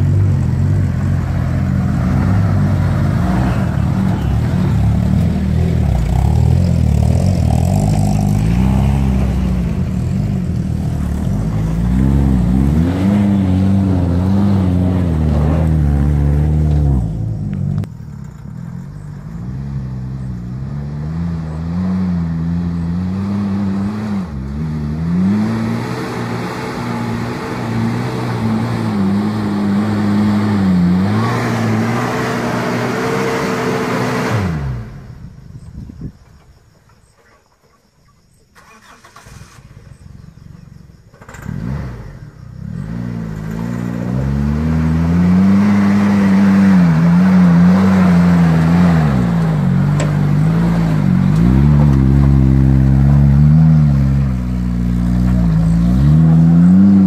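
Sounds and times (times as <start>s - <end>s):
car engine revving: 0.0s - 35.1s, 38.6s - 57.0s.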